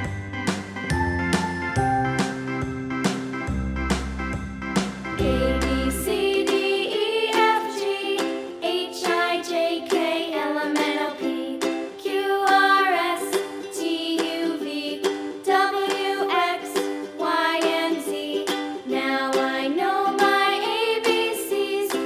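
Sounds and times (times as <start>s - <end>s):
children's song with plucked strings: 0.0s - 22.0s.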